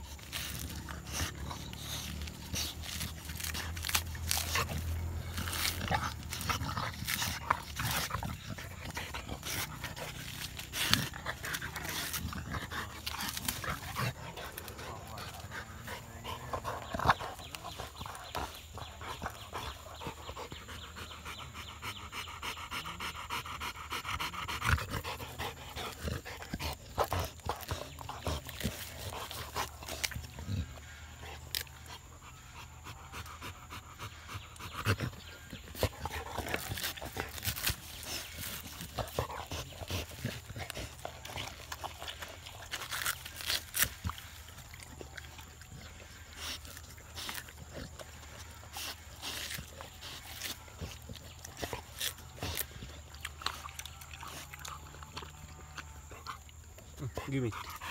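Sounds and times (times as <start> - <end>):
dog tearing coconut husk: 0.0 - 21.2, 24.2 - 57.9
dog panting: 0.0 - 57.9.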